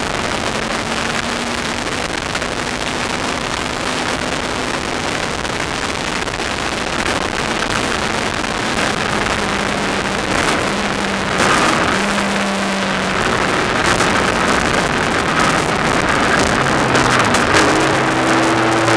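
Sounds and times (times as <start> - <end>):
motorcycle engine running hard: 0.0 - 18.9
wind noise on microphone: 0.0 - 18.9.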